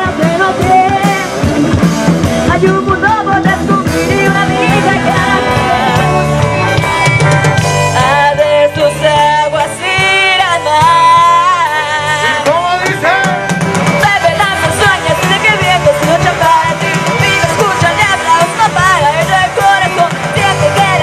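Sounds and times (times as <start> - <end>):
person singing: 0.0 - 1.6, 2.4 - 7.0, 7.9 - 21.0
bass guitar: 0.0 - 21.0
drum kit: 0.0 - 21.0
electric guitar: 0.0 - 21.0
keyboard: 0.0 - 21.0.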